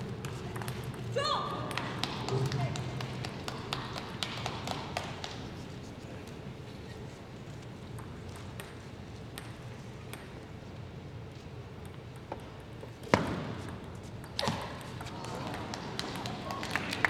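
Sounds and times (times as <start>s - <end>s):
hushed arena background: 0.0s - 17.0s.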